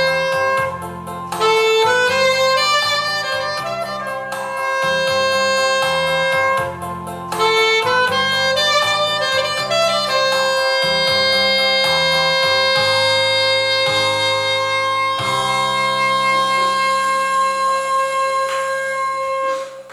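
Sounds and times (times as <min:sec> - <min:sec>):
saxophone slow melody: 0:00.0 - 0:19.9.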